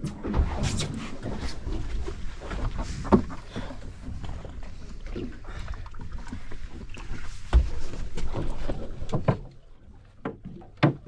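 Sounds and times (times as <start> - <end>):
water sloshing against boat hull: 0.0 - 11.0.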